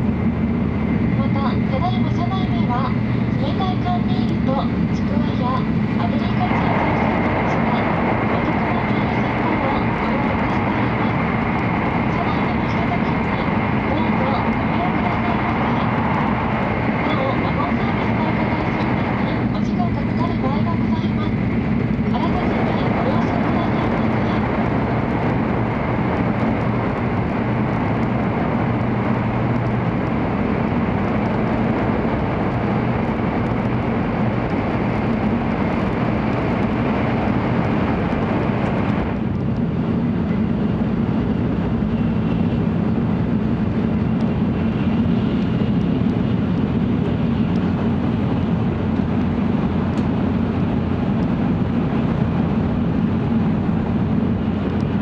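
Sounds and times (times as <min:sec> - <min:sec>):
train cabin rumble: 0:00.0 - 0:55.0
train roaring through tunnel: 0:00.0 - 0:55.0.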